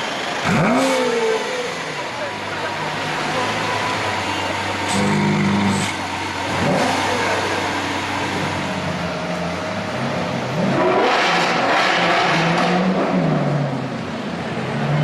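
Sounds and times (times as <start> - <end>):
sports car engine revving: 0.4 - 15.0.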